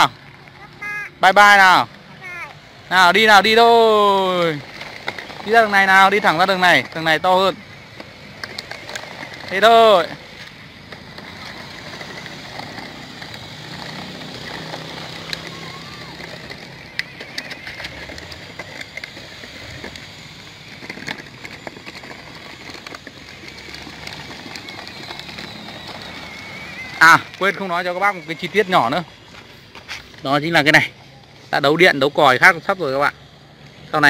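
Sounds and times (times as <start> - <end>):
drill motor whirring: 0.0 - 34.0
plastic wheels rolling on asphalt: 0.0 - 34.0.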